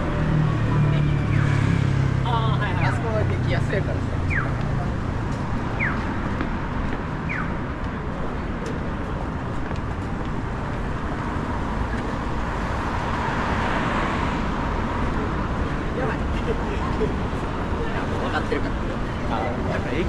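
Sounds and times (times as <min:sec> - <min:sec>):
car passing: 0:00.0 - 0:07.4, 0:11.1 - 0:20.0
traffic noise: 0:00.0 - 0:20.0.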